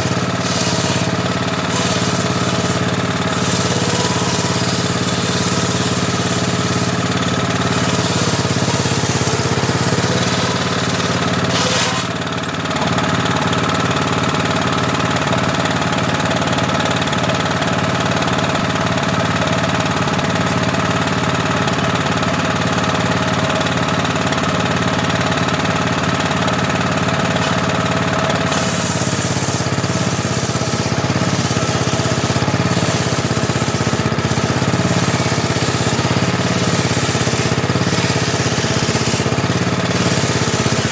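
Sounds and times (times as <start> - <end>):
table saw running: 0.0 - 40.9.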